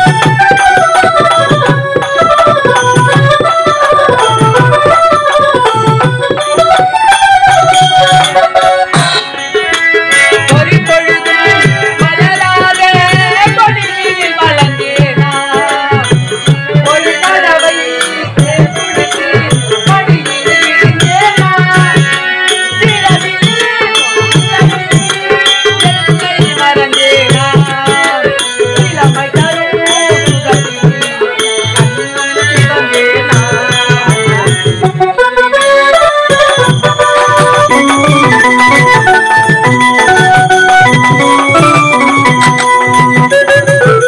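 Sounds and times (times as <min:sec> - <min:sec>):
harmonium melody: 0:00.0 - 0:44.0
mridangam drum beat: 0:00.0 - 0:44.0.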